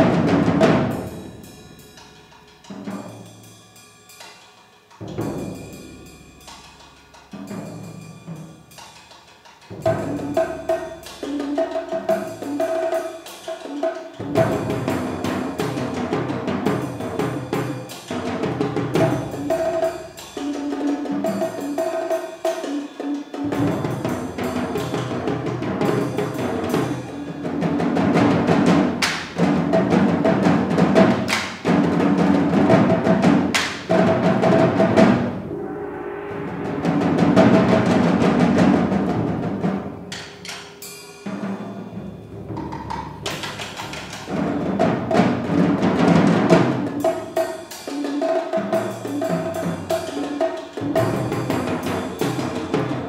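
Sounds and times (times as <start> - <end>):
percussion ensemble drumming: 0.0 - 53.0.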